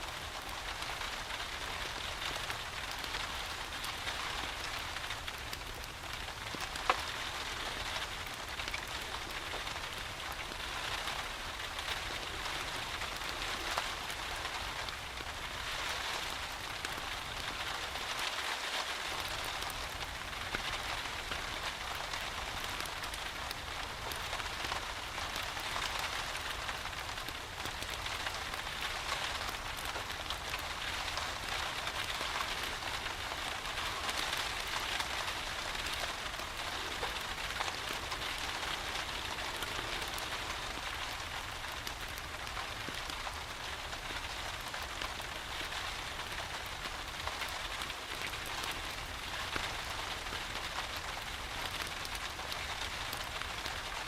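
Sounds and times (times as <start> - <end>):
steady rain falling: 0.0 - 54.0
raindrop ticks: 0.1 - 54.0.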